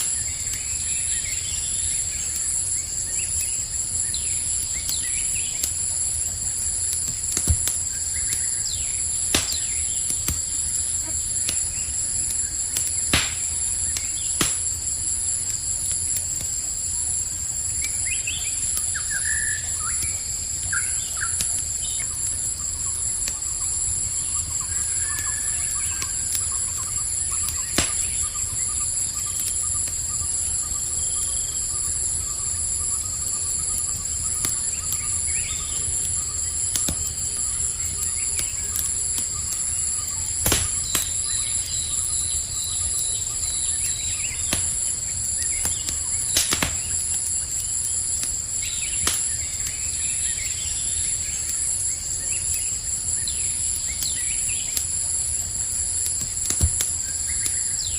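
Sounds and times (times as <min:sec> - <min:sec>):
campfire crackling and popping: 0:00.0 - 0:57.9
crickets chirping: 0:00.0 - 0:57.9.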